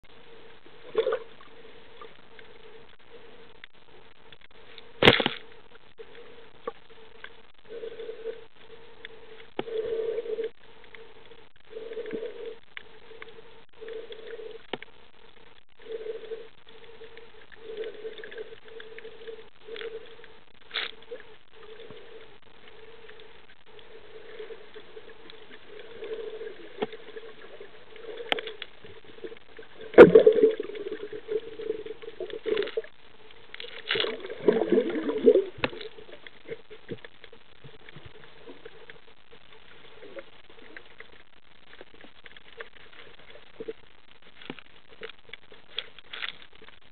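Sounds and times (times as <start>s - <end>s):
muffled underwater hum: 0.0s - 46.9s.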